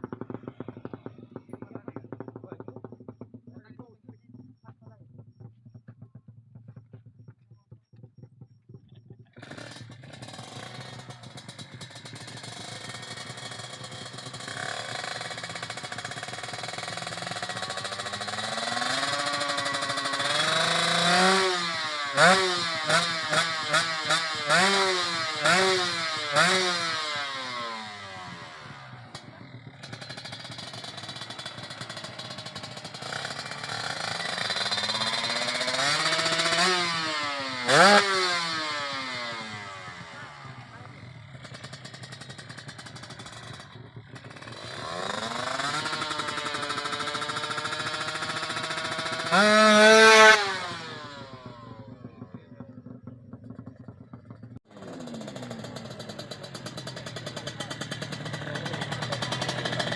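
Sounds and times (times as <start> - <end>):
quick throttle blips: 0.0 - 52.0
motorcycle engine revving: 0.0 - 59.9.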